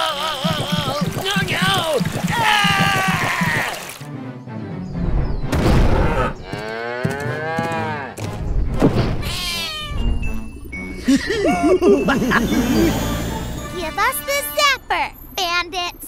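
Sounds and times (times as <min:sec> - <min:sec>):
background music: 0:00.0 - 0:14.9.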